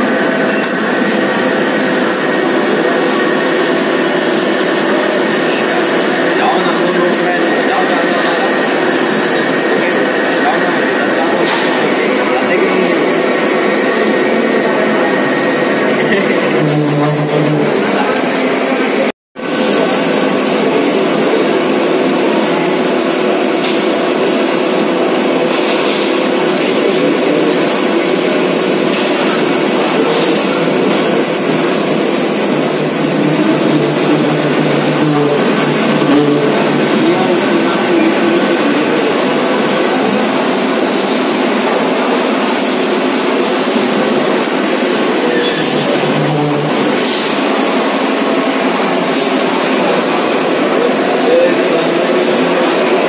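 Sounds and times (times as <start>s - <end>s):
metal lathe cutting: 0.0s - 53.0s.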